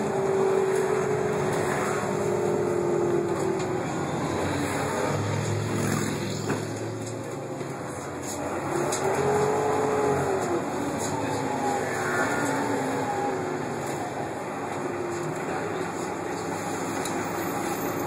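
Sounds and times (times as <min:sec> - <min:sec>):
bus engine running low: 0:00.0 - 0:18.0
bus transmission whine: 0:00.0 - 0:18.0.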